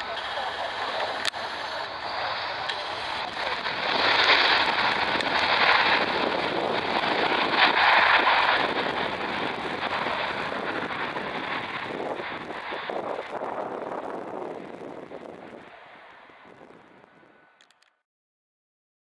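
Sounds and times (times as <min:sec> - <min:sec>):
jet engines in reverse thrust: 0:00.0 - 0:17.9.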